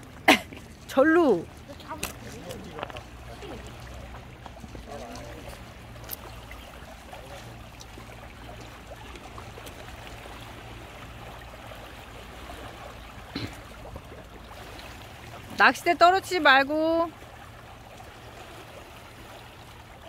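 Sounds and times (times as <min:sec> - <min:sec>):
waves lapping on pebbles: 0:00.0 - 0:20.0.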